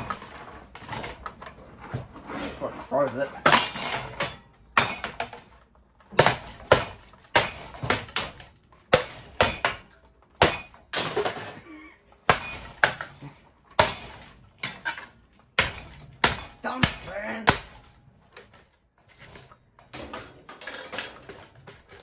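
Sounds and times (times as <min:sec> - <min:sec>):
ceiling fan being smashed: 0:00.0 - 0:02.1, 0:03.4 - 0:22.0.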